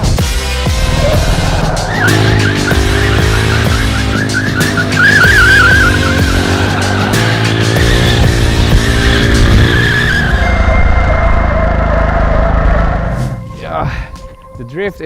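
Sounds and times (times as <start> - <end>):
motorcycle engine: 0.0 - 13.5
background music: 0.0 - 15.0
motorcycle tyre squealing: 0.8 - 13.4.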